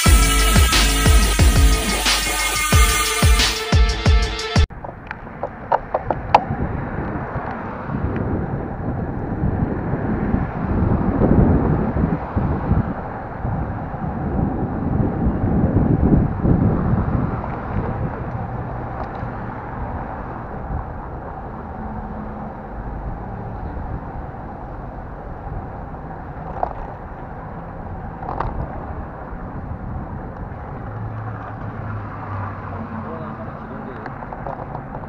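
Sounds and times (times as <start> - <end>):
passing cars rumbling: 4.7 - 35.0.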